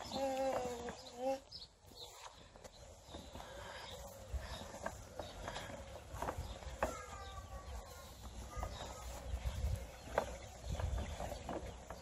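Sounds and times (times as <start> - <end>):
plastic wheels clattering on lawn: 0.0 - 12.0.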